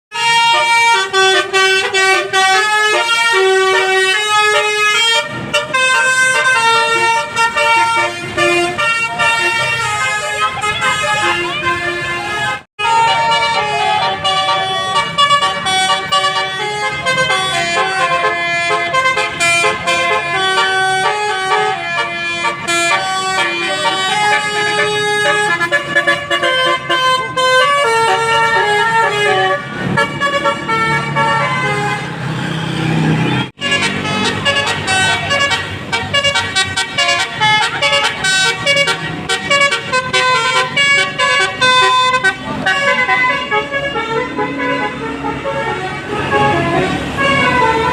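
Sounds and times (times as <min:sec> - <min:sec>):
multi-tone musical air horns: 0:00.1 - 0:47.9.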